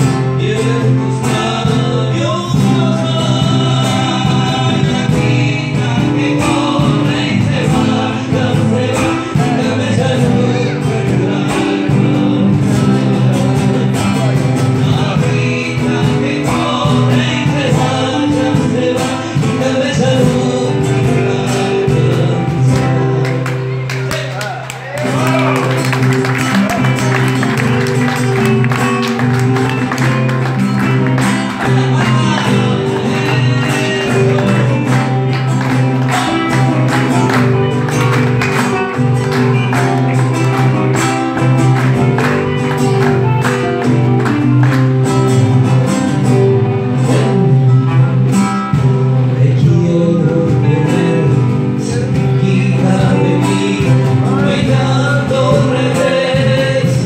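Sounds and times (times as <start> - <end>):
man singing: 0.0 - 24.0, 25.0 - 45.0, 46.1 - 57.0
acoustic guitars strumming: 0.0 - 57.0.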